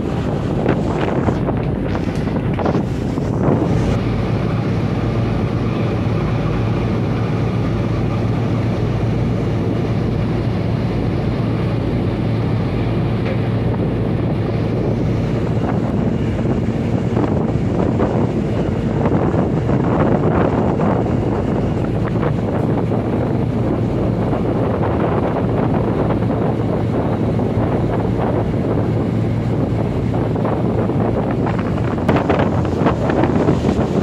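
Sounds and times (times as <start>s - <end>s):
ferry engines droning: 0.0s - 34.0s
wind buffeting microphone: 0.0s - 34.0s.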